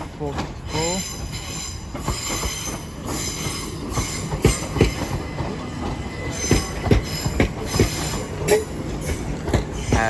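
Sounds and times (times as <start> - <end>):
train rumble: 0.0 - 10.0
train wheels clicking over rail joints: 0.0 - 10.0.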